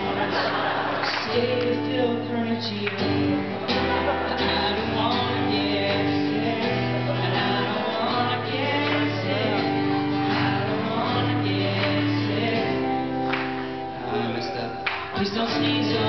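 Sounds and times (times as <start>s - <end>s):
acoustic guitar strumming: 0.0s - 16.0s
man singing into a microphone: 1.1s - 13.2s, 14.0s - 16.0s.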